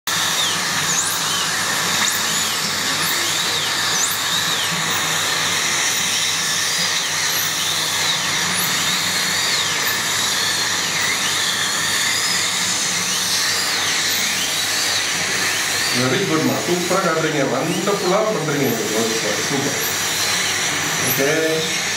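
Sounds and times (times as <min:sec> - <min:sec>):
dentist's drill whining: 0:00.1 - 0:21.9.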